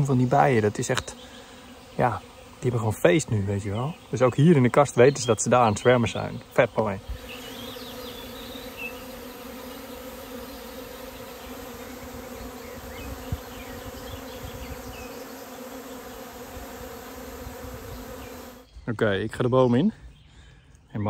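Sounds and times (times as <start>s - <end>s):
bees buzzing at a hive: 0.0s - 18.7s.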